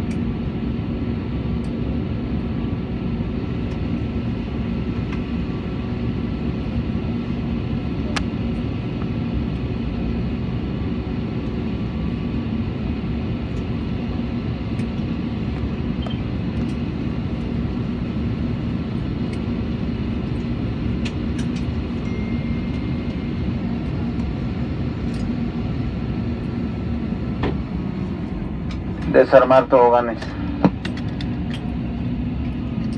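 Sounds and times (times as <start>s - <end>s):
aircraft cabin engine rush: 0.0s - 32.9s
low hum: 1.6s - 32.9s.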